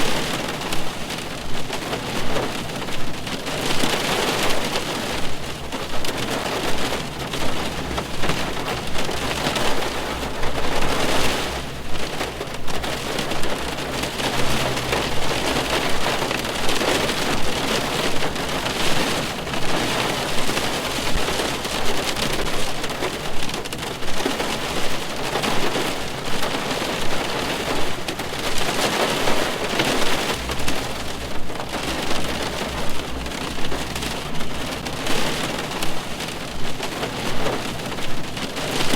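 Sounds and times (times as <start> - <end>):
rain on a car roof: 0.0 - 38.9.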